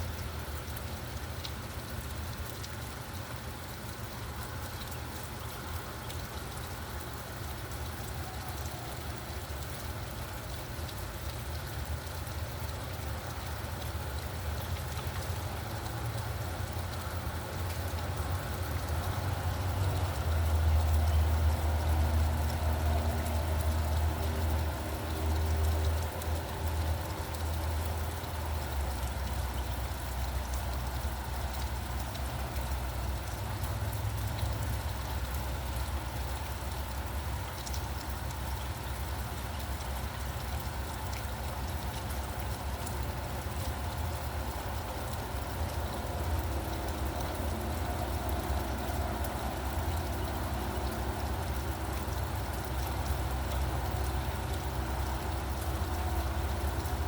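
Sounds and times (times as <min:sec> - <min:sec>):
faint engine hum: 0:00.0 - 0:57.0
rain falling: 0:00.0 - 0:57.0
road traffic rumble: 0:03.3 - 0:57.0.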